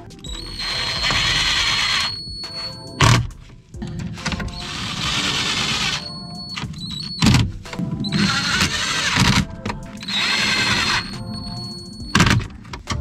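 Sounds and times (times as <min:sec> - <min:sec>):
power driver whining: 0:00.0 - 0:13.0.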